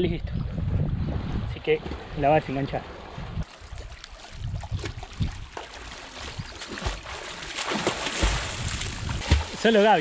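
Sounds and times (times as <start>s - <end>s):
wind rumbling on microphone: 0.0s - 7.2s, 7.8s - 9.8s
water lapping against a seawall: 1.8s - 10.0s.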